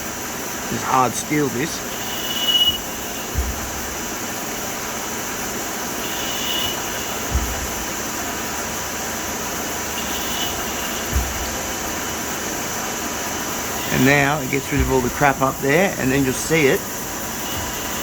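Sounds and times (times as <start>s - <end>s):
lathe machining noise: 0.0s - 18.0s
dull low thump: 1.8s - 18.0s.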